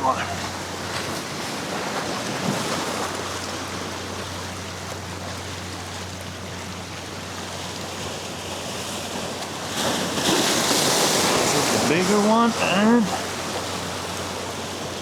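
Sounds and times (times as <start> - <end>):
waves washing on shore: 0.0 - 15.0.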